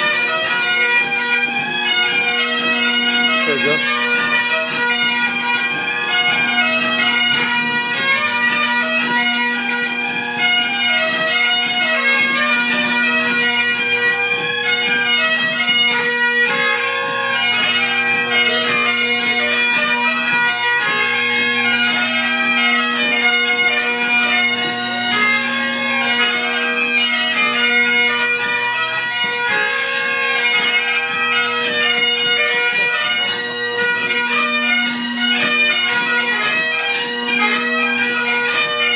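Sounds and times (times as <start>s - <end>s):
bagpipes playing a tune: 0.0s - 38.9s.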